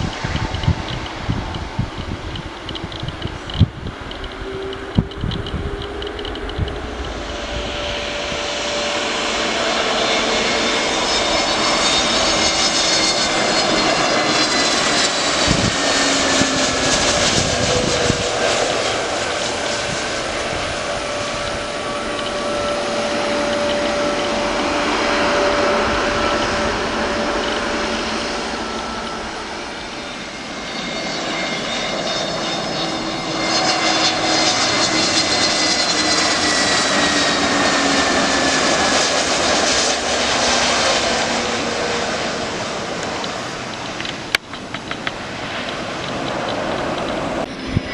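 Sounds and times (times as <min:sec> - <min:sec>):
jet engines roaring past: 0:00.0 - 0:47.9.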